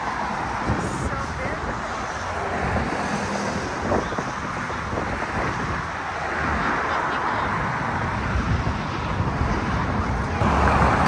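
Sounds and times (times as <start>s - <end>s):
passing cars: 0.0s - 11.0s
wind on microphone: 0.0s - 11.0s.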